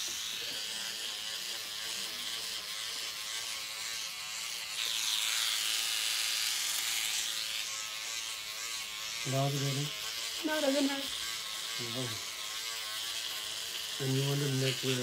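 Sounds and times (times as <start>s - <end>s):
microneedling pen buzzing: 0.0s - 15.0s.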